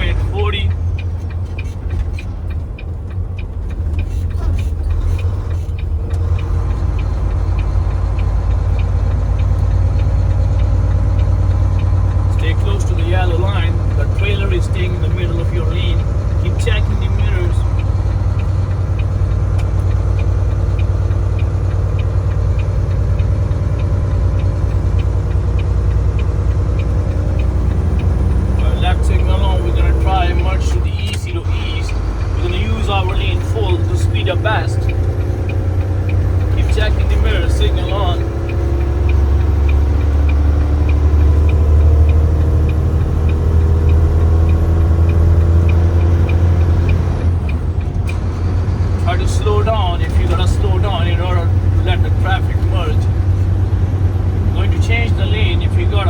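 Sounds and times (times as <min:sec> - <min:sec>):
road noise: 0:00.0 - 0:56.0
truck engine drone: 0:00.0 - 0:56.0
turn signal clicking: 0:00.0 - 0:56.0.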